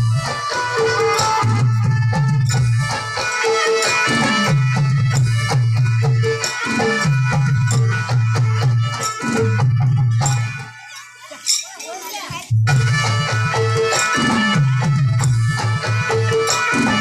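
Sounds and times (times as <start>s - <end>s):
sustained instrumental melody: 0.0s - 11.5s, 12.6s - 17.0s
repeating drum rhythm: 0.0s - 17.0s.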